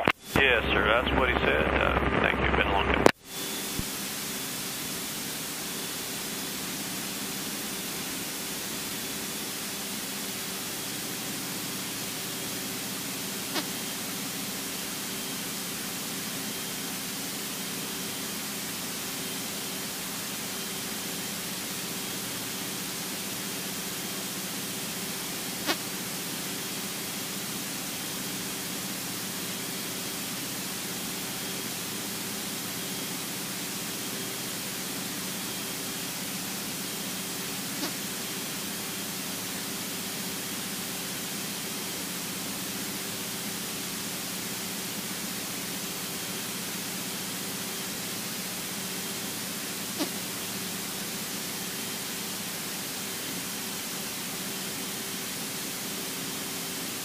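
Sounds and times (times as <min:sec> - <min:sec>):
aircraft engine drone: 0:00.0 - 0:57.0.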